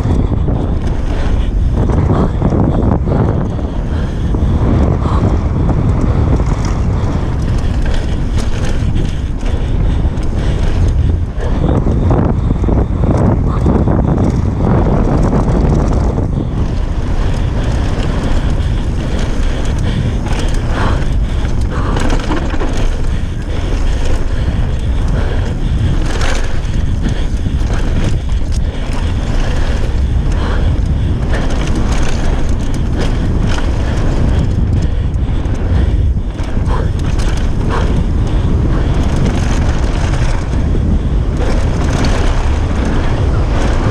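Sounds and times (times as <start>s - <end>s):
bike knocks and rattles: 0.0s - 43.9s
tyres rolling on dirt: 0.0s - 43.9s
wind buffeting microphone: 0.0s - 43.9s.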